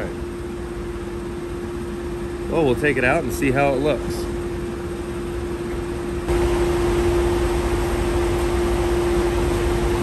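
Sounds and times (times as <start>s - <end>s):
shop machinery drone: 0.0s - 10.0s.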